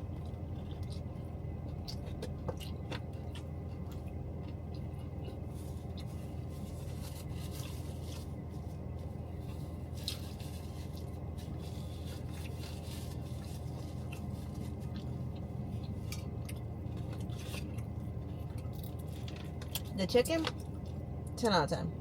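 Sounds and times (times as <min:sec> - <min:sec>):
person chewing: 0:00.0 - 0:20.0
steady low hum: 0:00.0 - 0:22.0.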